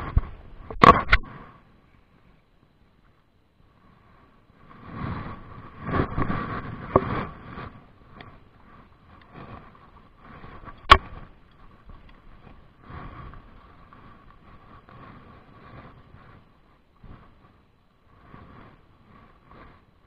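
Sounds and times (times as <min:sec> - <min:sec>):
rustling on microphone: 0:00.0 - 0:02.3, 0:03.0 - 0:20.0
wind noise on microphone: 0:00.0 - 0:02.4, 0:03.3 - 0:20.0
faint steady whine: 0:00.0 - 0:20.0.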